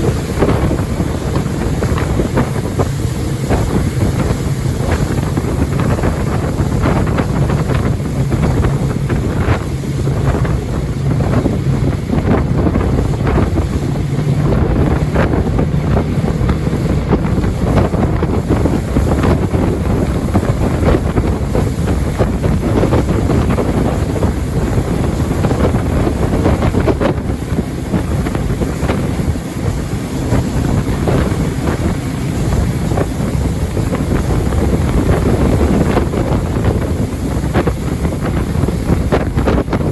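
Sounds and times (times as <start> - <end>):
boat engine drone: 0.0 - 39.9
rushing water: 0.0 - 39.9
wind buffeting microphone: 0.0 - 39.9.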